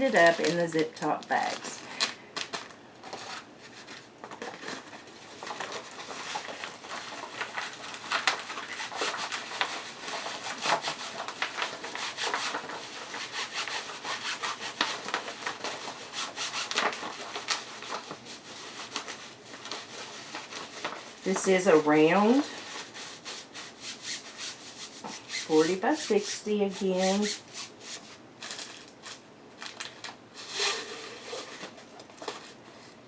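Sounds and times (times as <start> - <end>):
plastic bags rubbing and scraping: 0.0 - 33.0.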